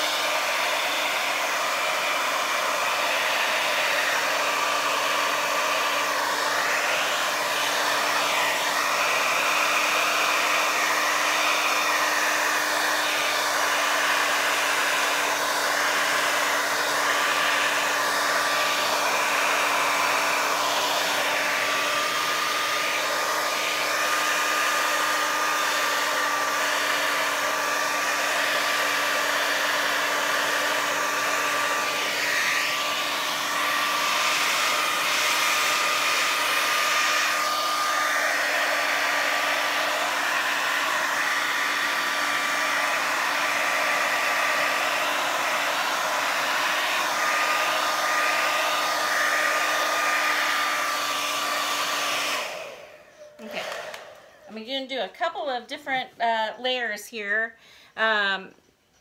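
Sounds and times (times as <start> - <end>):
hair dryer blowing: 0.0 - 58.5.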